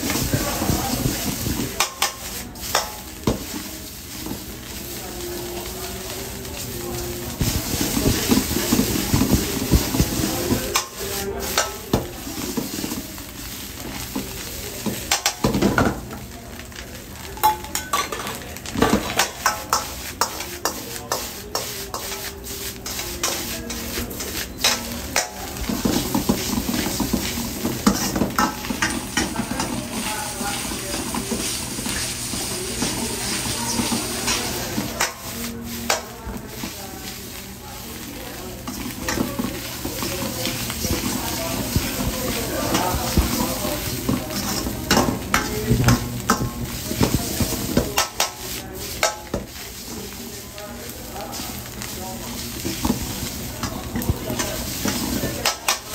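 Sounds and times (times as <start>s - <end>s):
noodles sizzling in a wok: 0.0s - 55.9s.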